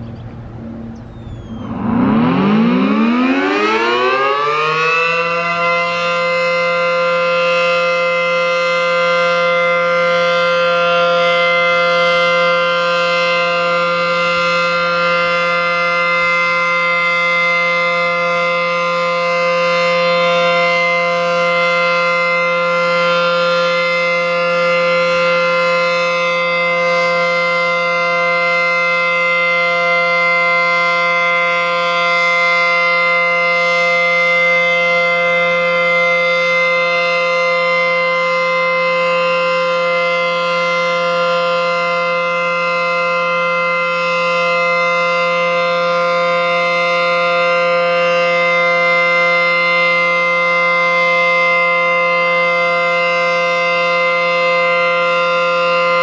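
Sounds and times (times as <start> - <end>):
civil defense siren steady tone: 0.0 - 56.0.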